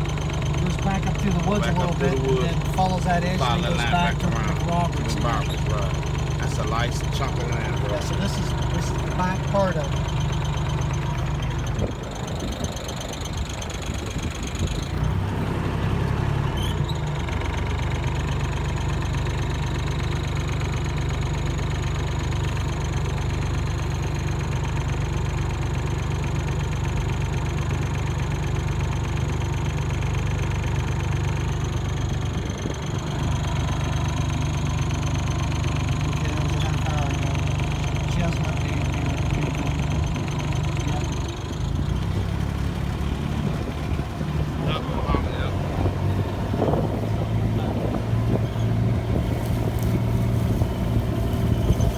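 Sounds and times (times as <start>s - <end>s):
vehicle engine droning: 0.0s - 51.9s.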